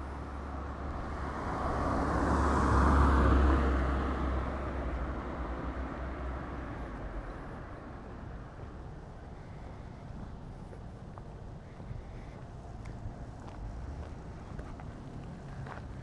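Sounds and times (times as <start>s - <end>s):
road vehicle passing by: 0.0s - 16.0s.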